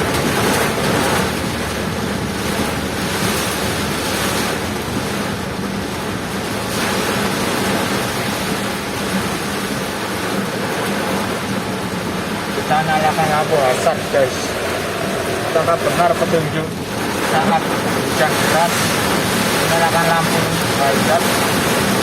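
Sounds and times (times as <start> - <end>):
heavy rain and wind rushing: 0.0 - 22.0.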